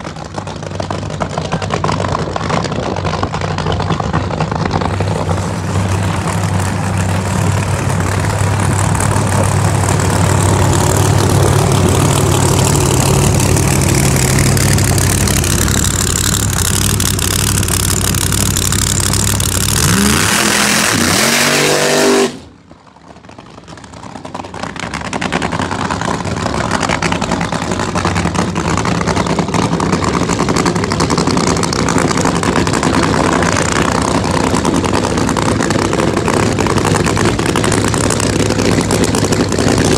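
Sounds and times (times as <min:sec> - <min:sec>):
car engine idling and revving: 0:00.0 - 0:39.9
noisy engine sound: 0:00.0 - 0:39.9.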